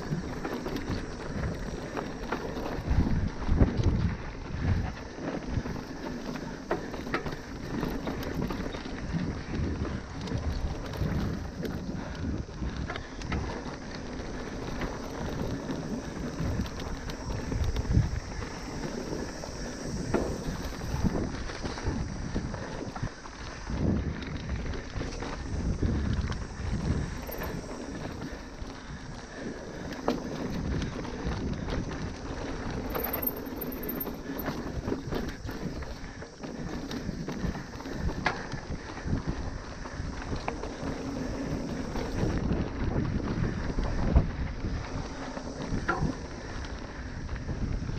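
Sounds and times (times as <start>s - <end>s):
bike knocking and rattling: 0.0s - 47.9s
tyres on loose ground: 0.0s - 47.9s
wind buffeting microphone: 0.0s - 47.9s.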